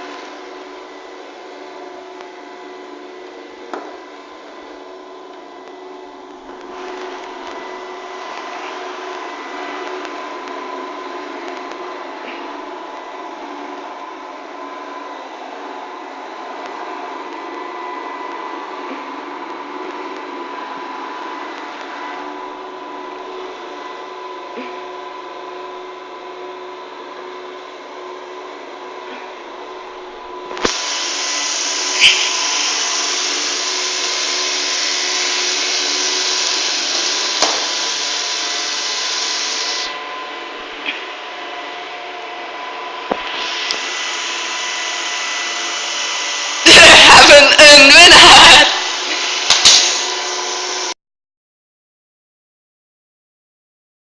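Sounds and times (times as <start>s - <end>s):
robot vacuum motor whine: 0.0s - 51.0s.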